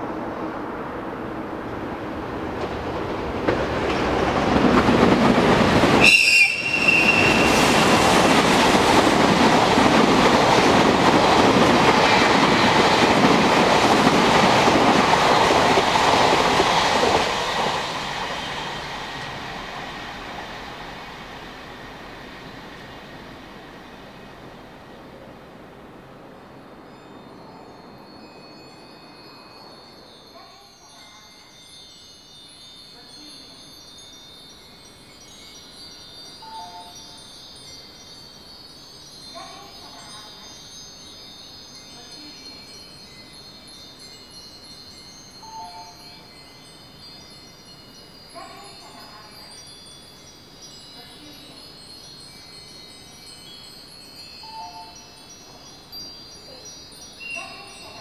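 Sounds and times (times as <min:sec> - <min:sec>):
metal wind chimes ringing: 0:03.9 - 0:58.0.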